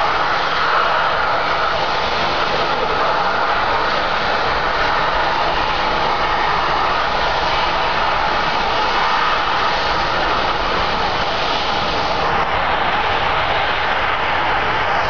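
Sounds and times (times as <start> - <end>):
high-pressure gas rushing: 0.0 - 15.0.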